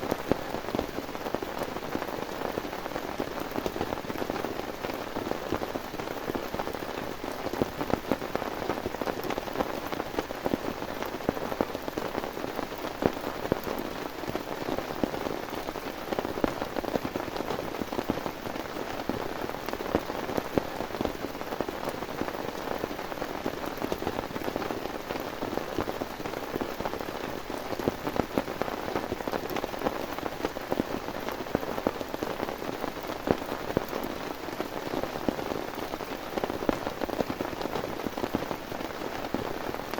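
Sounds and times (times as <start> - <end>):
heavy rain: 0.0 - 39.9
raindrops pattering on surface: 0.0 - 39.9.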